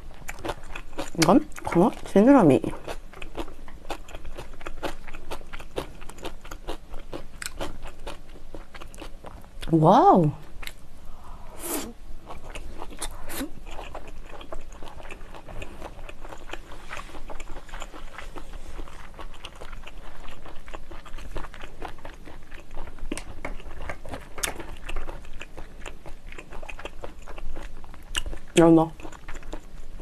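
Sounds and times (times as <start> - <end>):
chewing with wet mouth clicks: 0.0 - 2.1, 2.7 - 9.7, 12.3 - 30.0.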